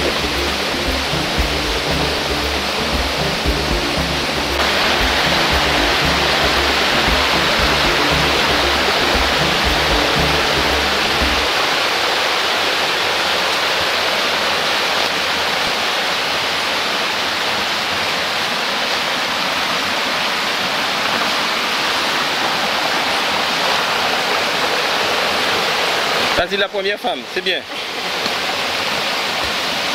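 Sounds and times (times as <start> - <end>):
stream rushing over boulders: 0.0 - 29.9.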